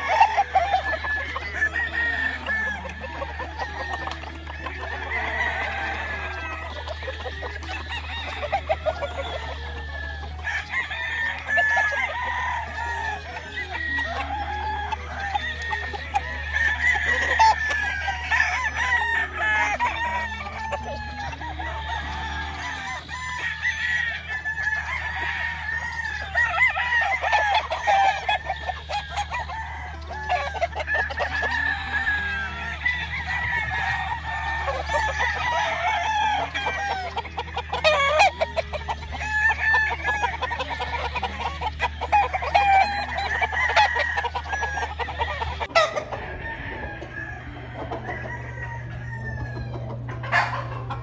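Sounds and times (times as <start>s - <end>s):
roosters crowing and clucking: 0.0s - 51.0s.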